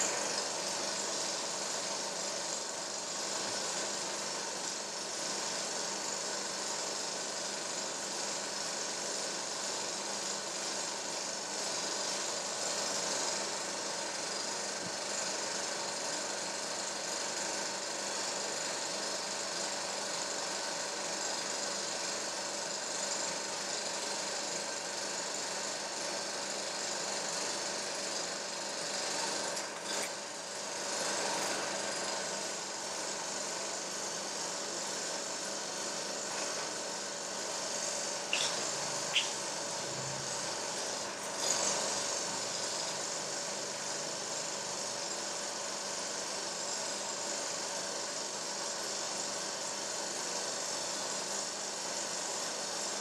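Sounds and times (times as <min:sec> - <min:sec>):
mechanical whirr and hiss: 0:00.0 - 0:53.0.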